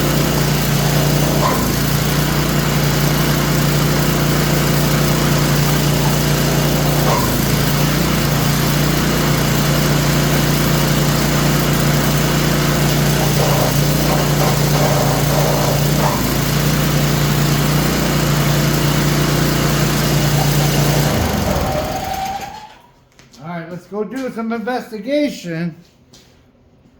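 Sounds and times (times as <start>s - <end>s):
small gas engine running: 0.0s - 22.7s.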